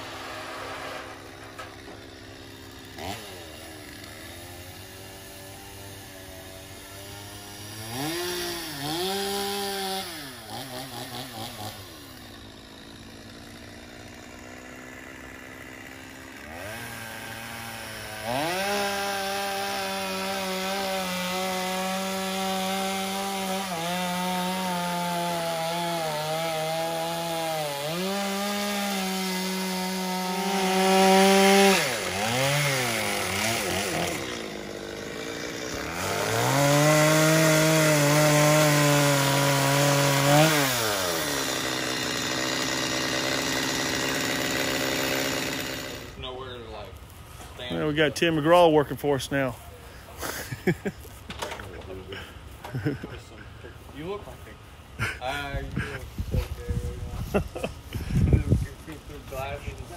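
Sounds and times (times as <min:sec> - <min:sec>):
chainsaw cutting wood: 0:00.0 - 0:49.5, 0:50.1 - 0:54.3, 0:55.0 - 0:59.9.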